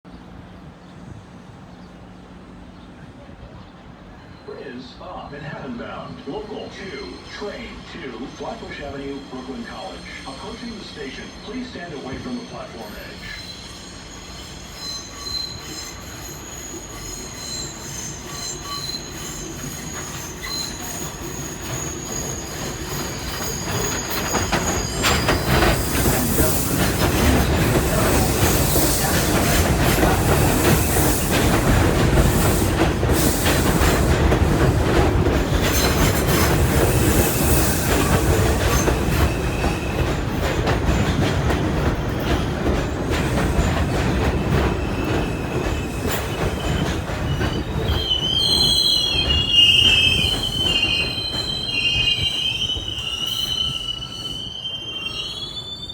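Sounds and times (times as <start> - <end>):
train rumble: 0.1 - 53.9
subway train wheel squeal: 0.1 - 55.9.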